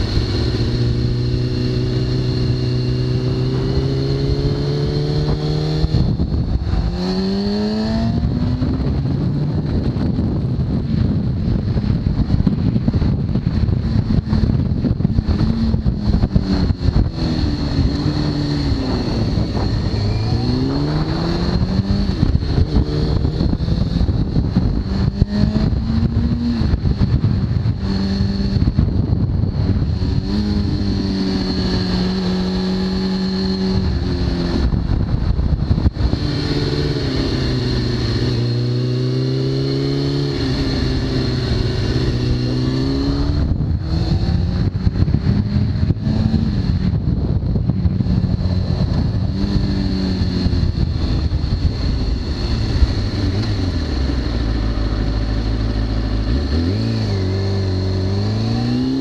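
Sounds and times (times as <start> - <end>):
motorcycle engine accelerating: 0.0 - 59.0
wind rushing over microphone: 0.0 - 59.0.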